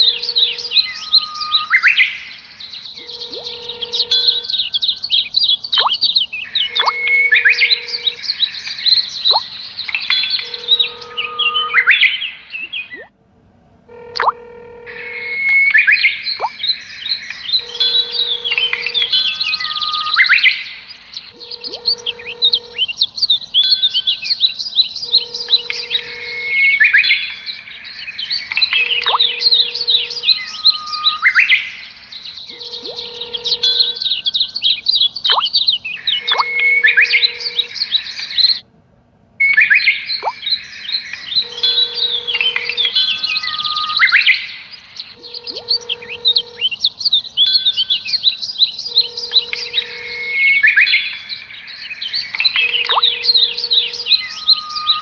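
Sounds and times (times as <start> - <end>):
bird-like chirps and tweets: 0.0 - 13.1, 14.9 - 38.6, 39.4 - 55.0.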